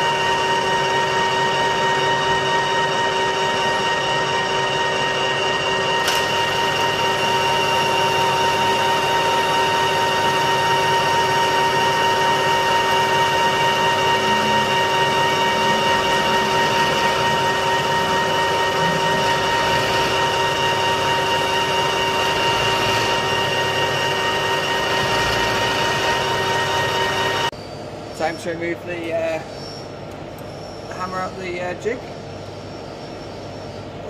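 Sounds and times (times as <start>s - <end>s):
metal lathe with gear whine: 0.0s - 34.0s.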